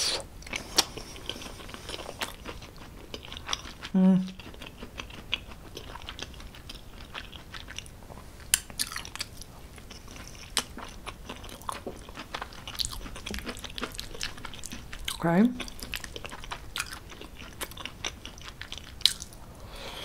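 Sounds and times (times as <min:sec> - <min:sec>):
wet chewing mouth sounds: 0:00.1 - 0:19.4.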